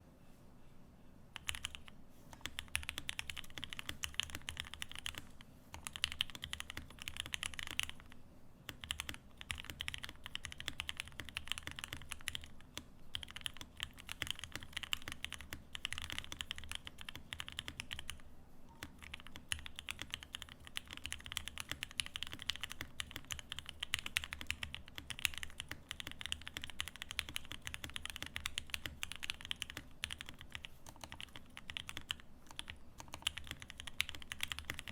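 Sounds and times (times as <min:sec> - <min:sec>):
mechanical keyboard typing: 0:01.4 - 0:18.2, 0:18.8 - 0:34.9.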